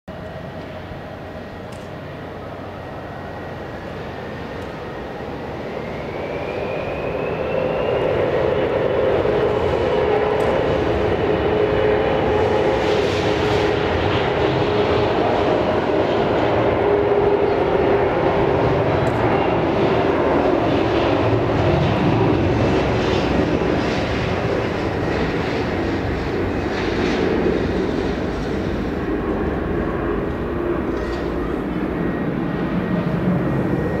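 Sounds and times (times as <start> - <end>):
jet engine whine rising: 0.1 - 34.0
jet engines roaring: 0.1 - 34.0.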